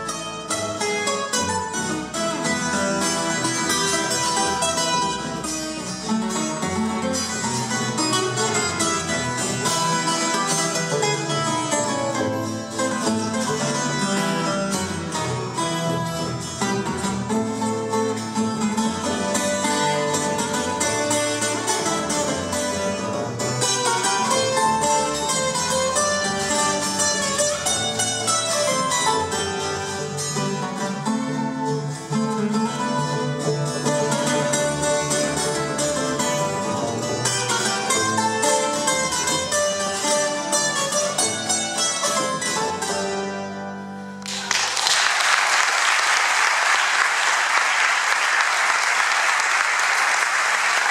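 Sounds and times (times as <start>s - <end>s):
walking double bass: 0.0s - 44.4s
string instruments picking and strumming: 0.0s - 50.9s.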